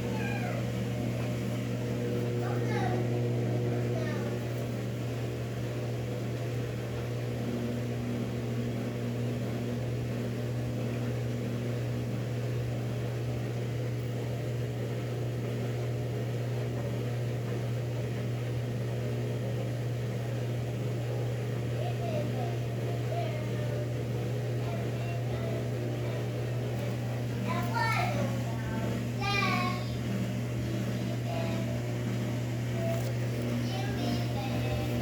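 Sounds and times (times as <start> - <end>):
washing machine humming: 0.0 - 35.0.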